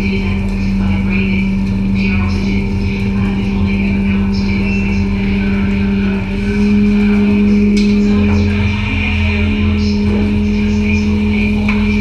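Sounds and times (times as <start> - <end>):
boat engine and hauler droning: 0.0 - 12.0.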